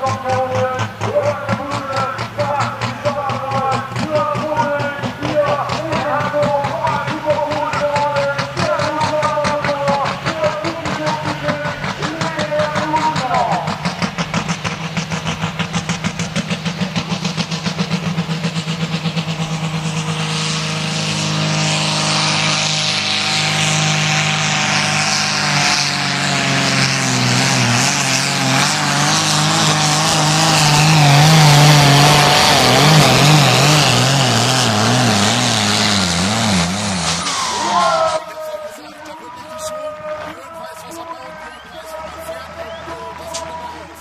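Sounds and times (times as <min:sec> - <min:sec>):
diesel tractor engine under load: 0:00.0 - 0:44.0.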